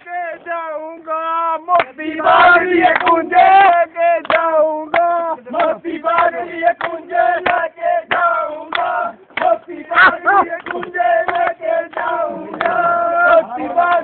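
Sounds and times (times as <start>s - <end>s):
man chant-like singing: 0.0s - 14.0s
sharp claps: 1.7s - 2.0s, 2.9s - 14.0s.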